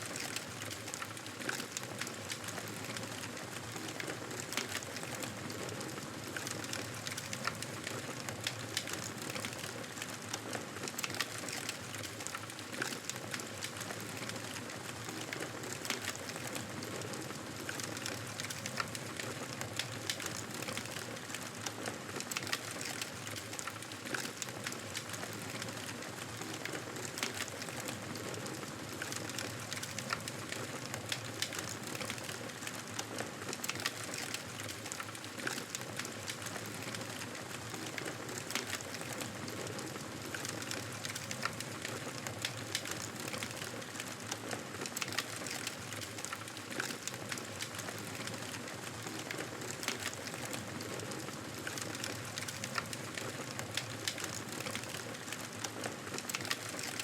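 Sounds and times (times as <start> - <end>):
fire crackling and popping: 0.1 - 57.0.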